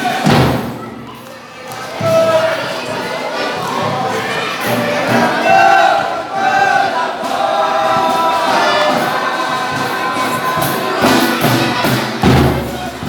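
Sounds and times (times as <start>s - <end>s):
chorus singing folk song: 0.0s - 0.6s, 1.9s - 13.0s.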